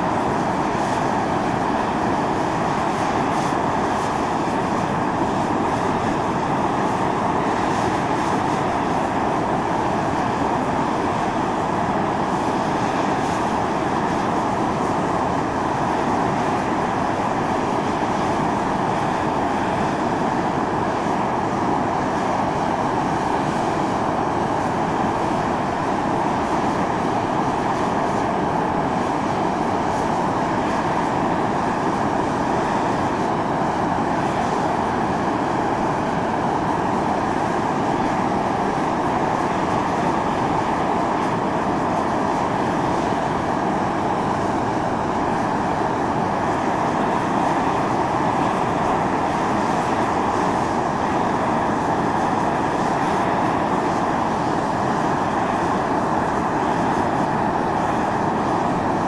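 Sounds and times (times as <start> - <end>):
fumarole steam hissing: 0.0 - 59.0.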